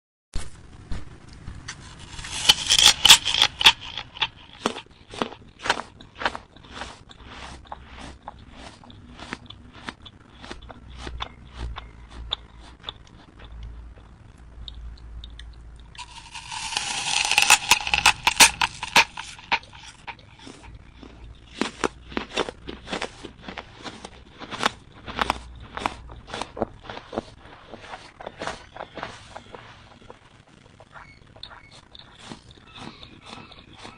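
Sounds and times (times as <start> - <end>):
apple crunching bite: 2.0 - 13.6, 16.0 - 30.0, 31.4 - 33.9
chewing with small crunches: 2.0 - 33.9.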